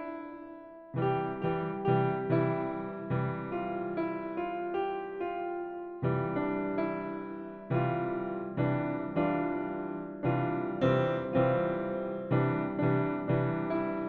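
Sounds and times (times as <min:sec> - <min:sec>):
piano notes and chords: 0:00.0 - 0:14.0.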